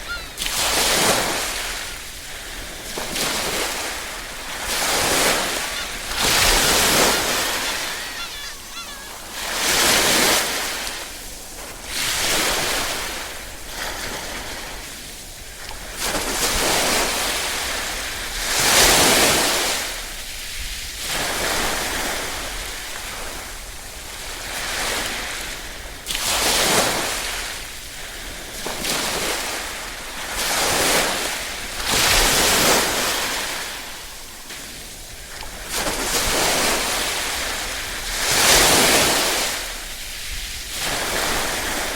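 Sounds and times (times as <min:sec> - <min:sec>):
small waves lapping on shore: 0:00.0 - 0:41.9.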